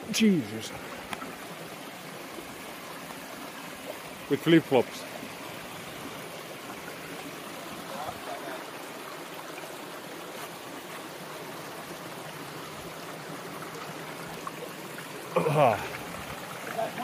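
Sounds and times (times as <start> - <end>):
stream trickling over rocks: 0.0 - 17.0.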